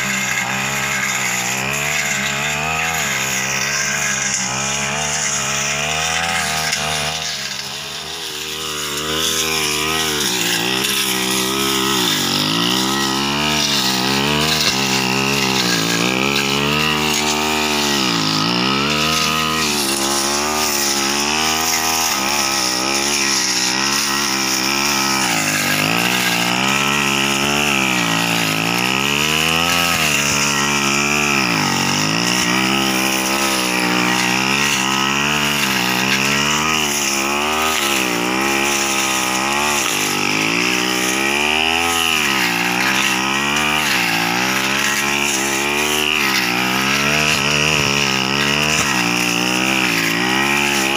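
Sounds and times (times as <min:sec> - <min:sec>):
brush cutter engine at high revs: 0:00.0 - 0:50.9.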